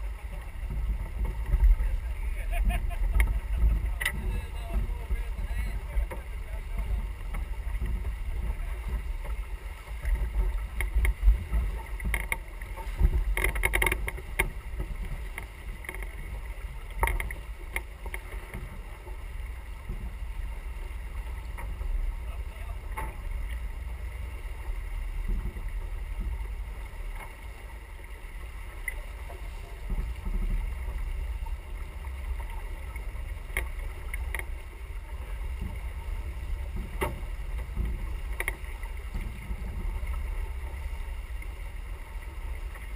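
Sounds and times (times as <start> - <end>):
water rushing past hull: 0.0 - 42.9.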